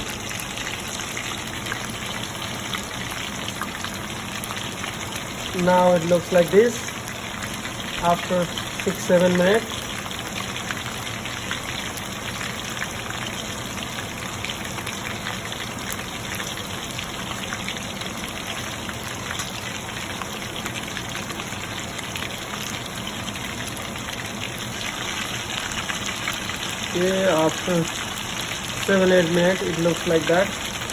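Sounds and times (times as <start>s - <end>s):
chicken sizzling in oil: 0.0s - 30.9s.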